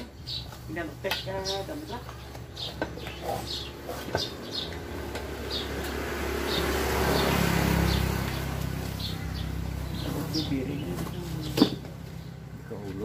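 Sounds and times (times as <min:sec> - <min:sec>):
high bird chirps: 0:00.0 - 0:12.4.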